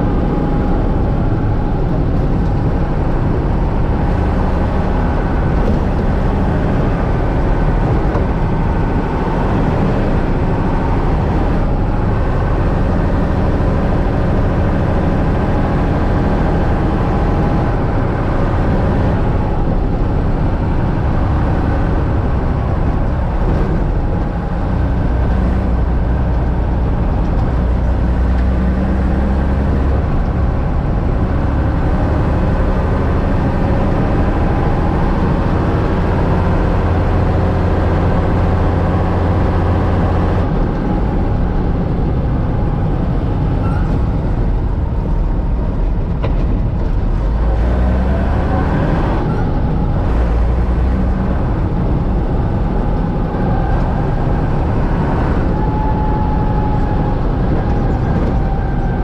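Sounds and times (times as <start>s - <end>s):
diesel truck engine under load: 0.0s - 59.0s
truck driving on gravel: 0.0s - 59.0s.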